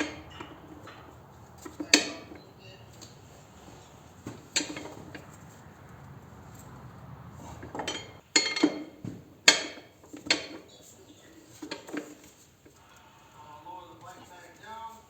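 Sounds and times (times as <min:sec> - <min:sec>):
metal tools clanking: 0:00.0 - 0:12.3.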